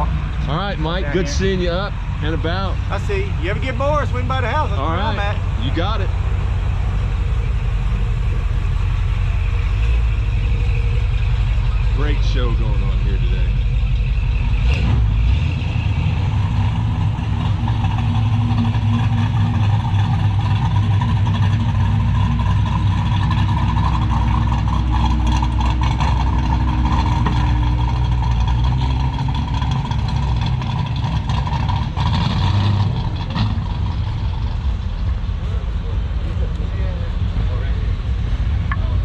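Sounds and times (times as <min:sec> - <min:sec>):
vehicle engine rumbling past: 0:00.0 - 0:39.0.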